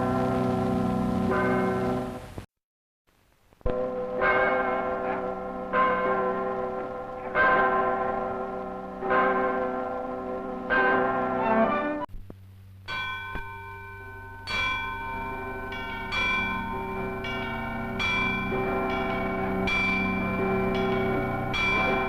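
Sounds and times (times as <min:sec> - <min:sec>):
church bells ringing: 0:00.0 - 0:02.2, 0:03.7 - 0:11.9, 0:12.9 - 0:22.0.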